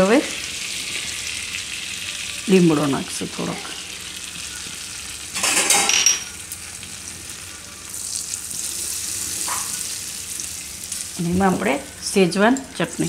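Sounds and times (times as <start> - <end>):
fat sizzling: 0.0 - 13.0.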